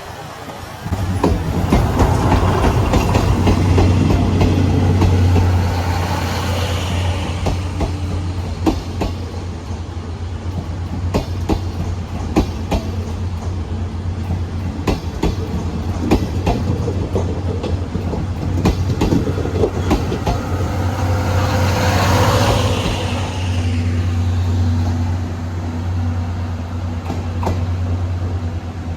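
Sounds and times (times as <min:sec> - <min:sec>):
train low rumble: 0:00.0 - 0:28.9
train wheels clacking on rails: 0:00.4 - 0:28.4.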